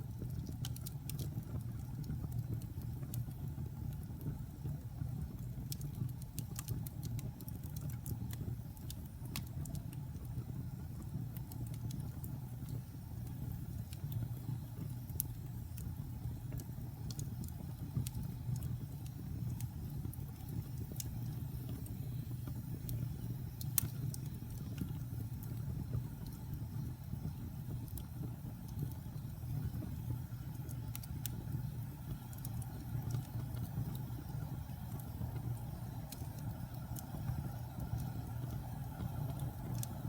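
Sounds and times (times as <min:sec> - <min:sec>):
logs crackling and popping: 0:00.0 - 0:40.0
low rumble of flames: 0:00.0 - 0:40.0.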